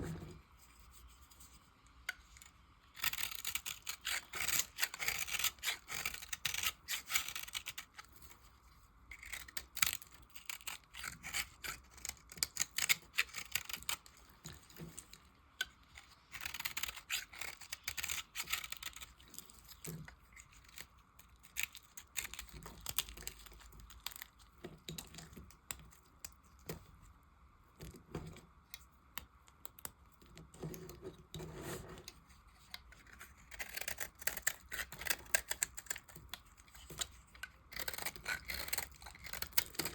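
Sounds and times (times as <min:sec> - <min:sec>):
knife cutting soap: 0:02.1 - 0:08.3, 0:09.1 - 0:26.8, 0:27.8 - 0:39.9.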